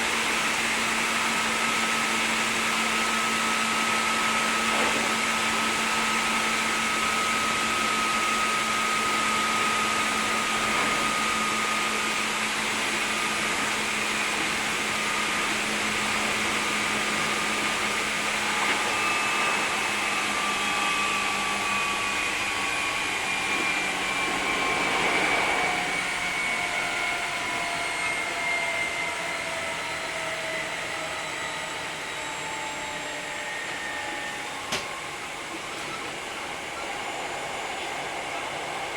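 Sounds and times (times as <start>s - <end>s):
electric train running whine: 0.0s - 38.9s.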